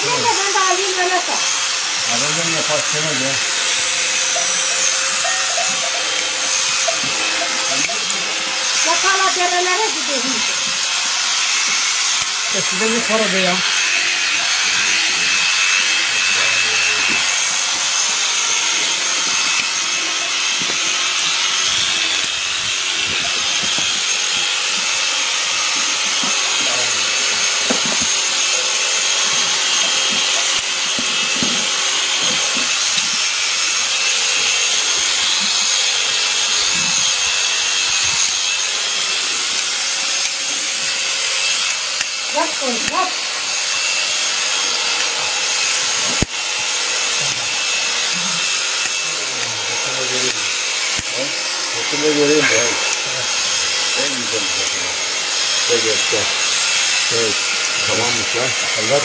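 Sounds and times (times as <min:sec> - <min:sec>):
shears cutting fleece: 0:00.0 - 0:59.0.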